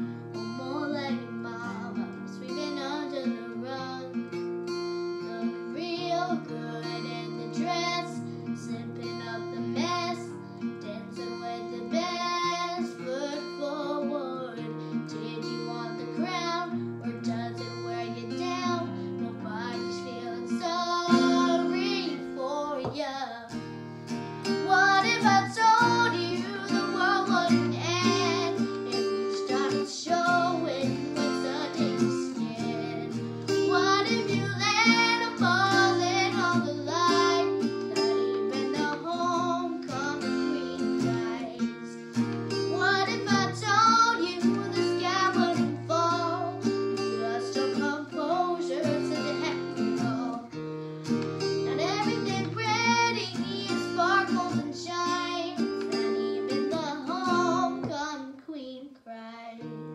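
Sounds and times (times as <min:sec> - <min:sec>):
acoustic guitar: 0:00.0 - 0:59.9
girl singing pop-country song: 0:00.0 - 0:59.9.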